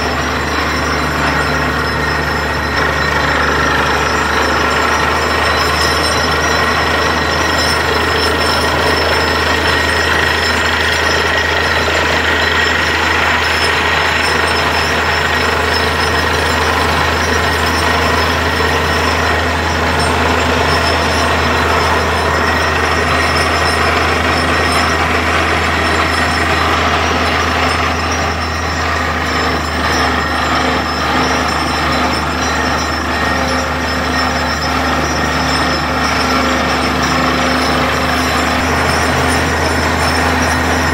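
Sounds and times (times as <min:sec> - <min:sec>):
drilling rig engine running: 0:00.0 - 0:40.9.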